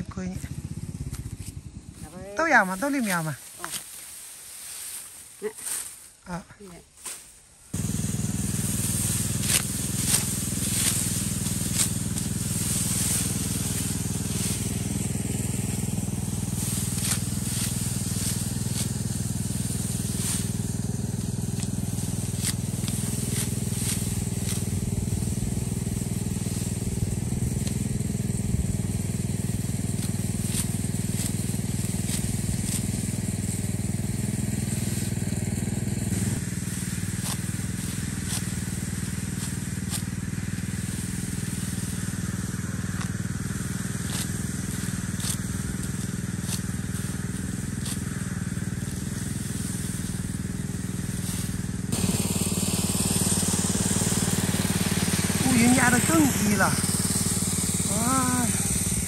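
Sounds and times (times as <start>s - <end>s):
sickle cutting rice stalks: 0.0s - 59.0s
threshing machine engine hum: 0.0s - 59.0s.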